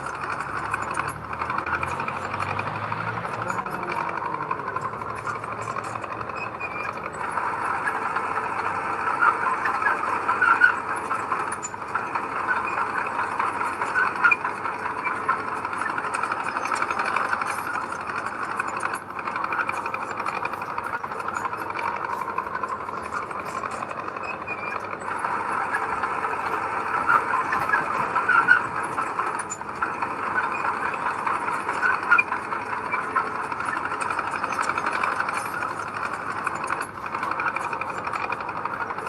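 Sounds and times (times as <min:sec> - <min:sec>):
diesel earthmoving machinery running: 0:00.0 - 0:39.0.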